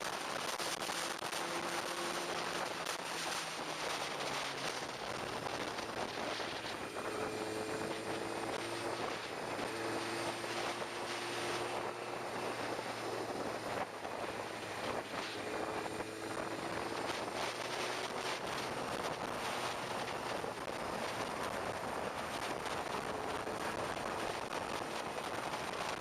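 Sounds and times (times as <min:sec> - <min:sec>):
motorcycle engine hum: 0:00.0 - 0:26.0
wind rushing over microphone: 0:00.0 - 0:26.0.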